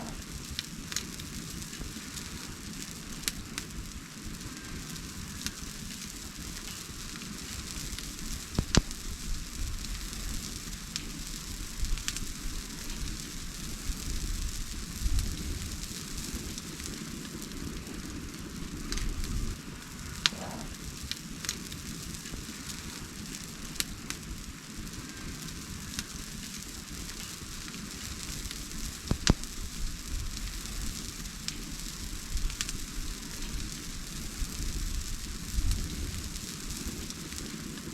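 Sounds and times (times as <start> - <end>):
campfire flames hissing: 0.0 - 37.9
wood crackling and popping: 0.0 - 37.9.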